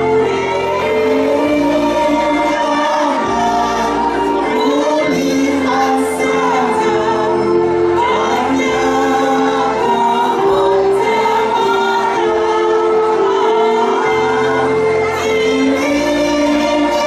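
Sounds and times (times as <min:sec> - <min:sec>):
amplified instrumental accompaniment: 0:00.0 - 0:17.0
vocal group singing: 0:00.0 - 0:17.0.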